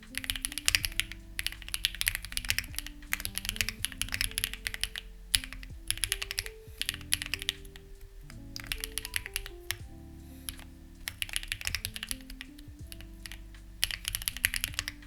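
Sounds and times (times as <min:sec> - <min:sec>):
mechanical keyboard typing: 0:00.0 - 0:15.0
soft background music: 0:00.0 - 0:15.0.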